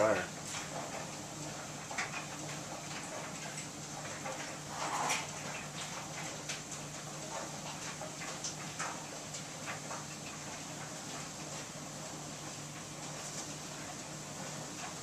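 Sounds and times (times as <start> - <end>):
clothes dryer humming: 0.0 - 15.0.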